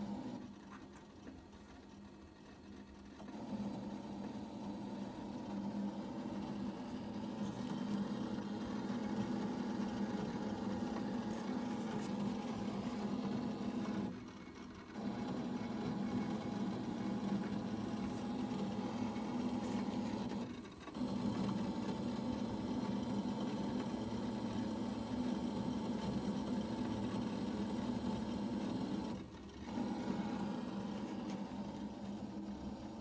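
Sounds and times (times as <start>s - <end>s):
printer mechanical hum: 0.0s - 33.0s.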